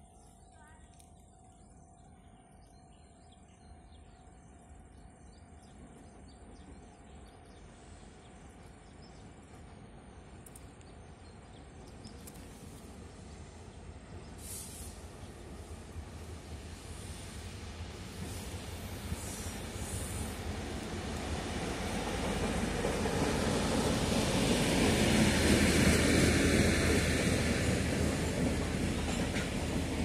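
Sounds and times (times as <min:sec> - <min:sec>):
insects chirring: 0:00.0 - 0:26.0
freight train rumbling: 0:03.6 - 0:30.0.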